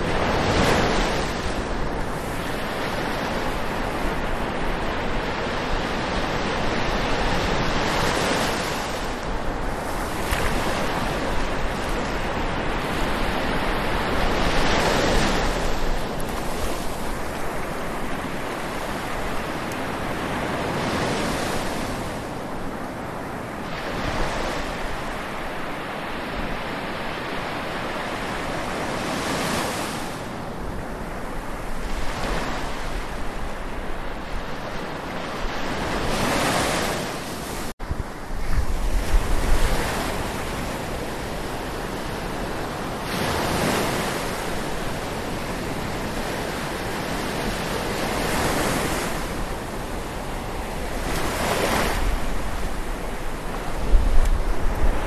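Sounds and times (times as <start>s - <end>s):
waves washing on shore: 0.0s - 55.0s
wind buffeting microphone: 0.0s - 55.0s.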